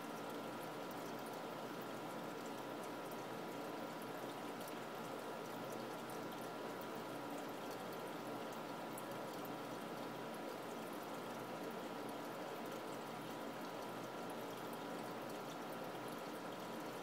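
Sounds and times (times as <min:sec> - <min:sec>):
aquarium filter bubbling water: 0:00.0 - 0:17.0.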